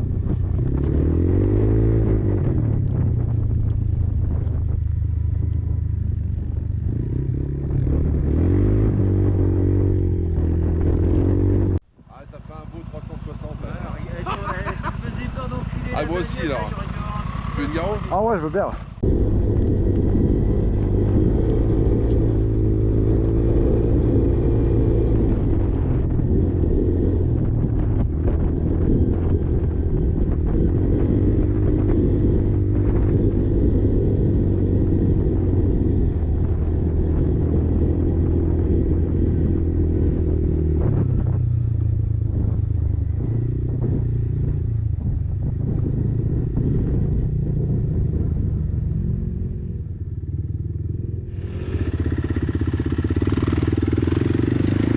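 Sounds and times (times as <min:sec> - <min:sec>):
quad engine running: 0:00.0 - 0:54.9.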